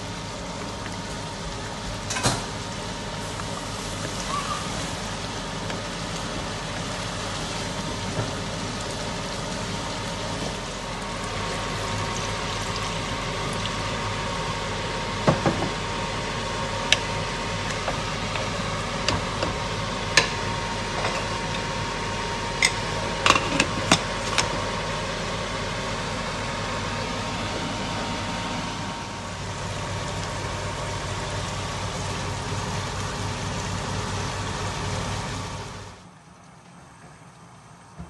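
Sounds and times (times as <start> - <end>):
whirring kitchen hum: 0.0 - 38.0.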